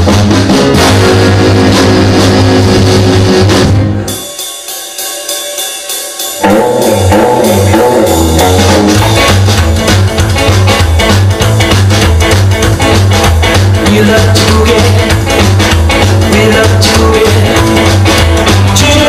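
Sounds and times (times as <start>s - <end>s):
rock and roll band playing: 0.0s - 19.0s.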